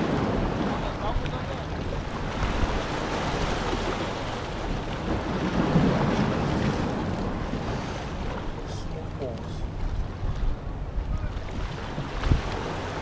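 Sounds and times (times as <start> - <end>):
sea water rushing: 0.0 - 13.0
wind buffeting microphone: 0.0 - 13.0.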